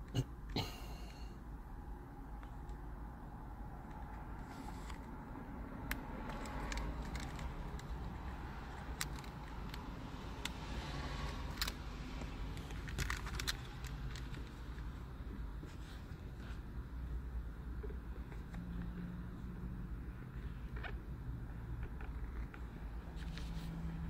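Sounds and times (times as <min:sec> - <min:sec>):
low rumble inside car: 0:00.1 - 0:24.0.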